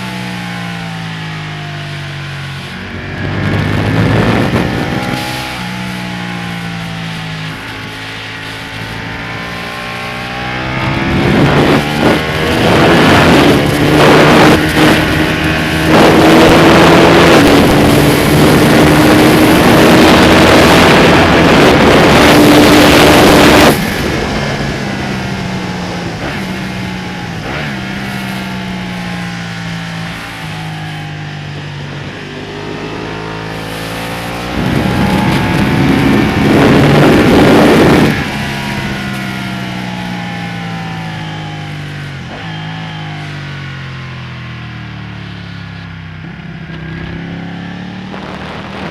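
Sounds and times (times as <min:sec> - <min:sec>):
motorcycle engine revving: 0:00.0 - 0:48.9
wind rush: 0:02.0 - 0:43.2, 0:46.2 - 0:48.9.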